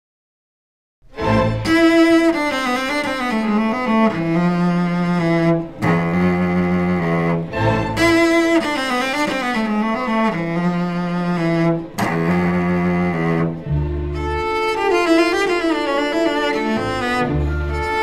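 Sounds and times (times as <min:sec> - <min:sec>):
bowed strings music: 0:01.1 - 0:18.0.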